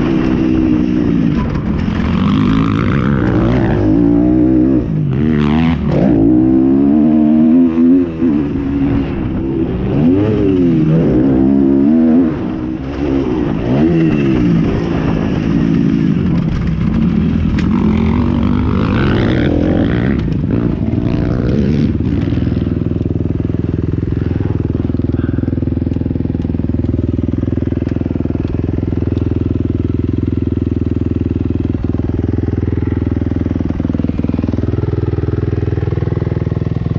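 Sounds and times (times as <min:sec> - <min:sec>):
engine running at low speed: 0:00.0 - 0:36.9
motorcycle engines revving: 0:00.0 - 0:36.9.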